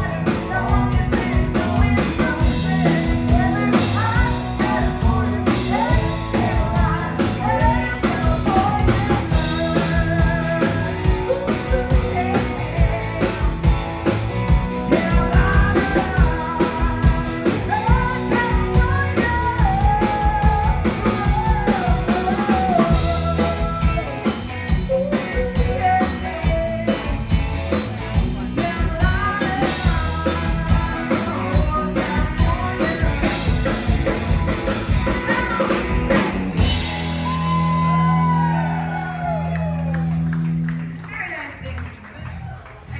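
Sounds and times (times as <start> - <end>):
lead singer singing: 0.0 - 39.4
drum kit: 0.0 - 40.9
country band playing: 0.0 - 42.9.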